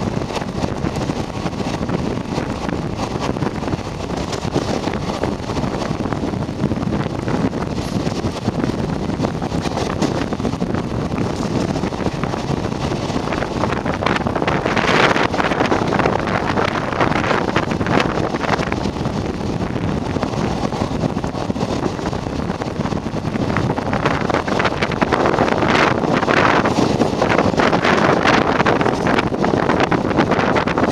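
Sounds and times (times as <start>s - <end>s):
rushing air buffeting microphone: 0.0s - 30.9s
train wheels on rails: 0.0s - 30.9s.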